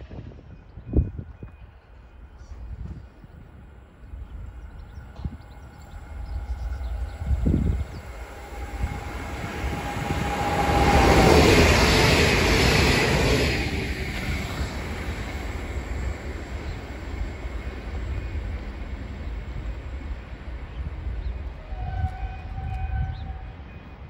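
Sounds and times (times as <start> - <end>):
passenger train passing: 0.0 - 24.0.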